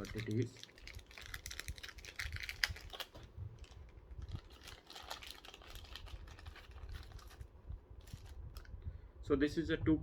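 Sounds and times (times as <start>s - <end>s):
packaging clicks and rustles: 0.0s - 8.7s.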